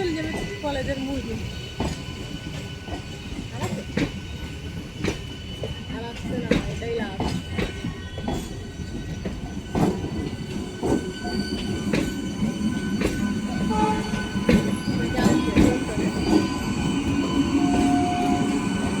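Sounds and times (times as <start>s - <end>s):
train rumble: 0.0s - 19.0s
train wheels knocking on rail joints: 0.0s - 19.0s.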